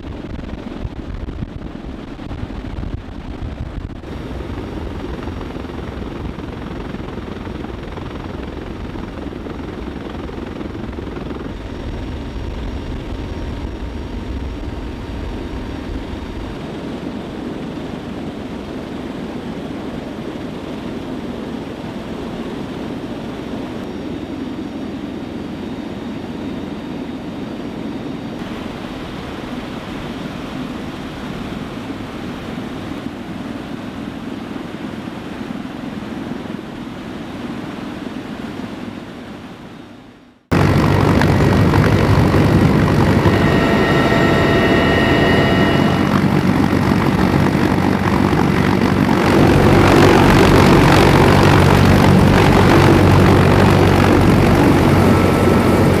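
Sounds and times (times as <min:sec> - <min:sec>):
helicopter rotors whirring: 0:00.0 - 0:56.0.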